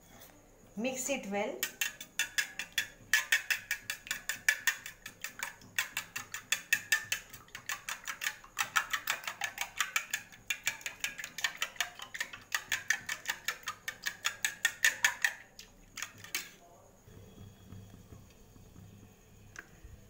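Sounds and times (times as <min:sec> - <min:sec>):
spoon beating eggs in metal bowl: 0:01.6 - 0:20.0.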